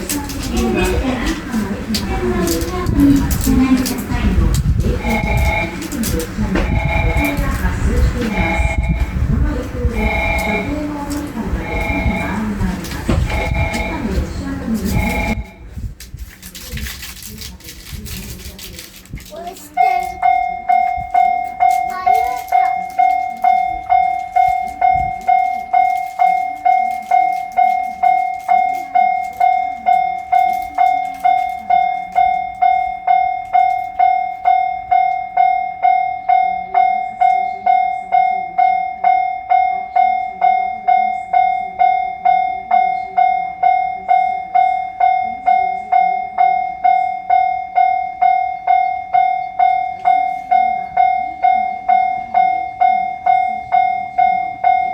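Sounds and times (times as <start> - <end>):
level crossing alarm bell: 0.0 - 15.8, 18.7 - 54.9.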